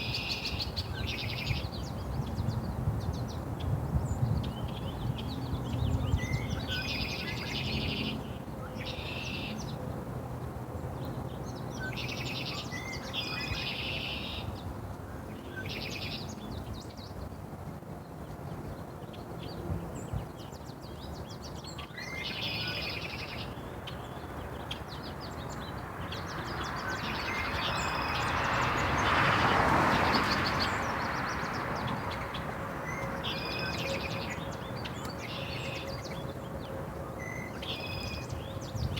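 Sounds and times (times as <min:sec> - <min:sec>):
outdoor background noise: 0:00.0 - 0:38.9.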